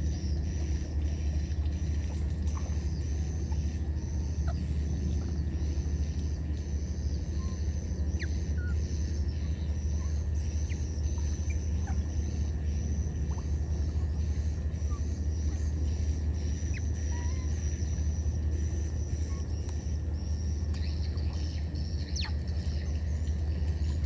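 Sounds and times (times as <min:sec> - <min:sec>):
insects trilling: 0:00.0 - 0:24.0
steady low rumble: 0:00.0 - 0:24.0.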